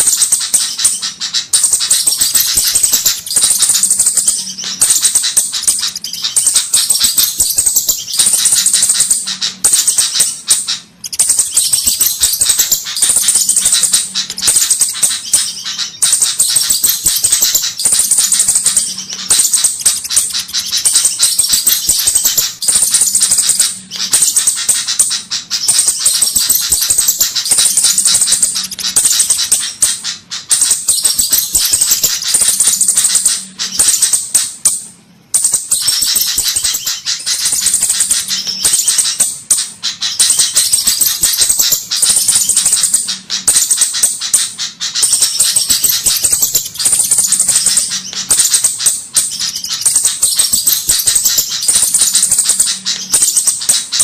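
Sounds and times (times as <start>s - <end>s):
high ticking bird calls: 0.0s - 54.0s.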